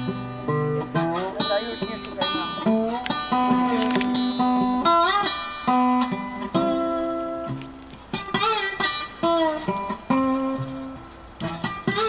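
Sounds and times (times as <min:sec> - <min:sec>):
acoustic guitar with sliding notes: 0:00.0 - 0:12.0.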